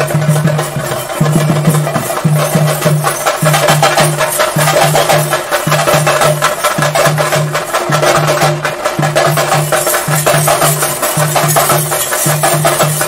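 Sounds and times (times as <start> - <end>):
cymbals: 0.0 - 13.0
deep drum beat: 0.0 - 13.0
rapid drumming: 0.0 - 13.0.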